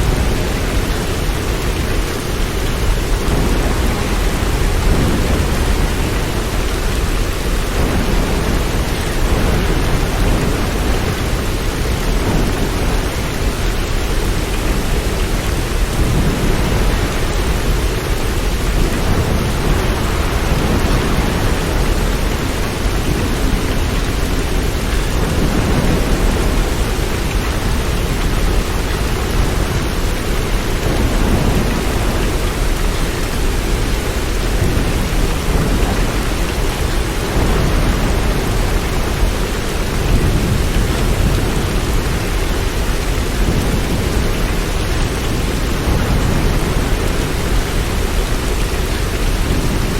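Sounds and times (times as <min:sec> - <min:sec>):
rain: 0:00.0 - 0:49.9.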